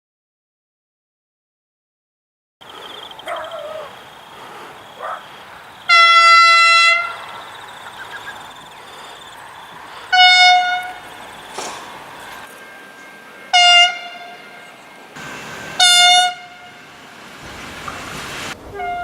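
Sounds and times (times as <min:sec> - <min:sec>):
train horn blasts: 0:03.3 - 0:19.0.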